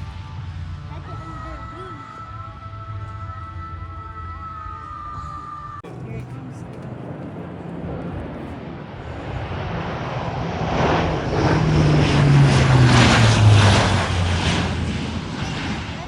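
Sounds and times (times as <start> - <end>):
turboprop aircraft flying past: 0.0 - 16.0.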